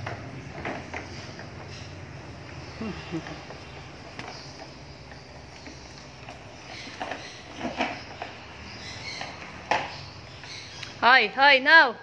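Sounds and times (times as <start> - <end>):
toy truck wheels rolling on tile: 0.0 - 10.8.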